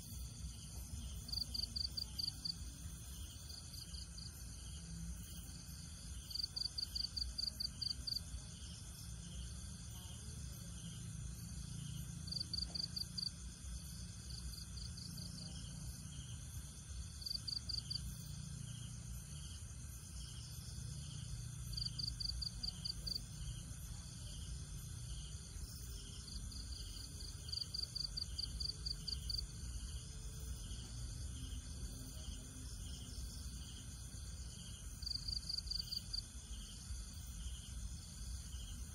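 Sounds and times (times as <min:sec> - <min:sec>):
insect chirping in rapid pulses: 0:00.0 - 0:38.9
insects droning: 0:00.0 - 0:38.9.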